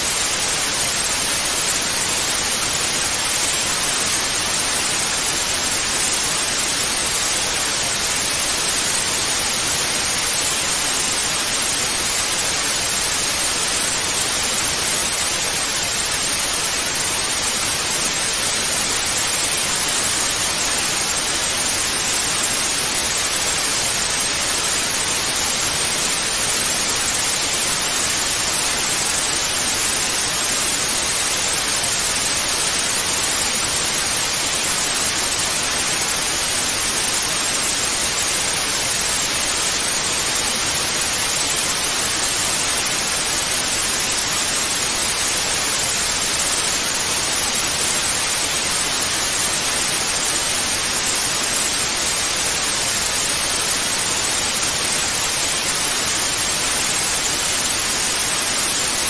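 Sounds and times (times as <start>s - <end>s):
tv static hiss: 0.0s - 59.0s.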